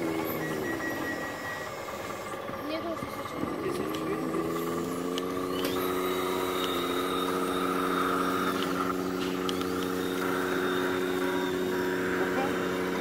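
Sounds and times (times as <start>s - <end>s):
small motors whining: 0.0s - 13.0s.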